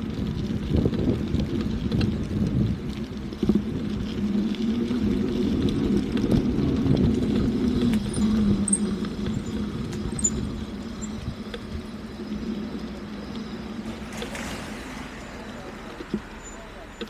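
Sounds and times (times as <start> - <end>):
vehicle engine running: 2.6 - 17.0.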